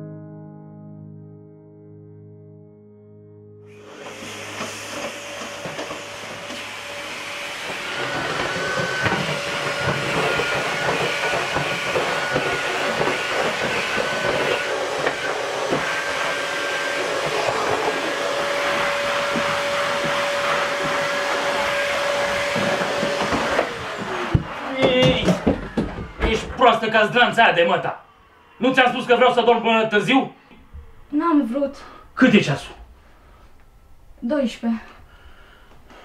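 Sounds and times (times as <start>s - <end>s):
vacuum cleaner running: 3.7s - 33.6s.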